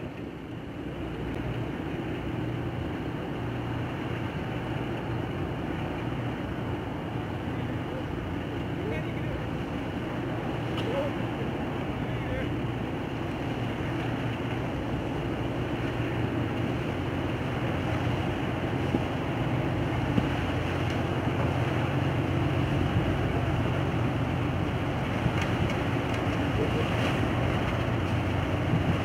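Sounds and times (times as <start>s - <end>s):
ship diesel engine droning: 0.0s - 29.0s.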